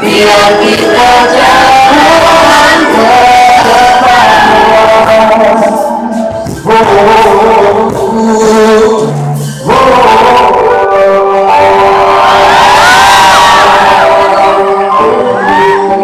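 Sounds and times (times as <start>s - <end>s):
live pop band through speaker: 0.0s - 16.0s.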